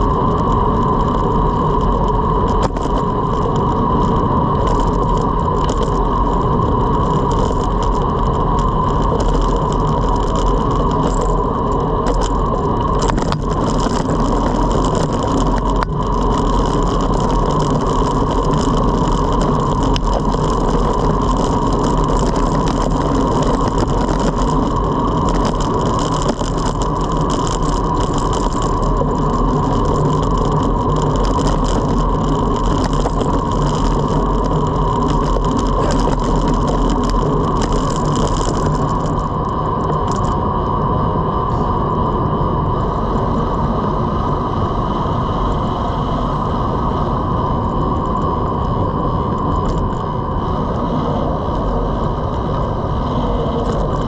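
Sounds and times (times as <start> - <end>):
bike tyres rolling on asphalt: 0.0 - 54.0
wind noise: 0.0 - 54.0.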